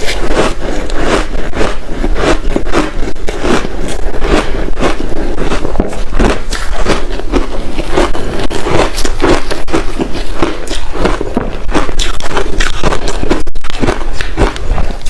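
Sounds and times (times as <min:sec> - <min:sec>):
ice crunching while chewed: 0:00.0 - 0:15.0.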